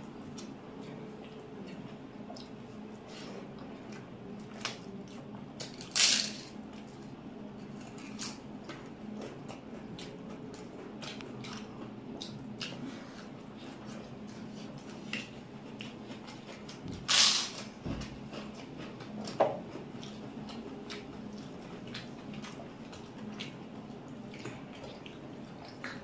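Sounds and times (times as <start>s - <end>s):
wet squishing and smacking eating: 0.0s - 5.9s, 6.6s - 26.0s
steady low hum: 0.0s - 26.0s.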